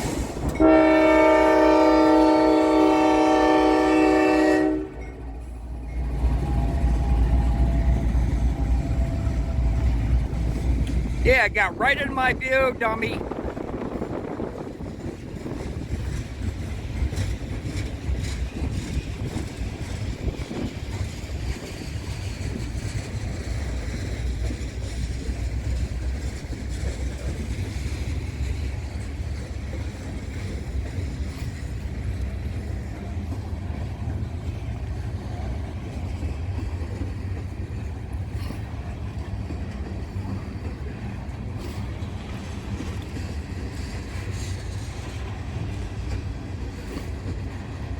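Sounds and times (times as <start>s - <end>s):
train cars rumbling past: 0.0s - 47.9s
wheels clicking over rail joints: 5.1s - 11.2s, 14.6s - 47.9s.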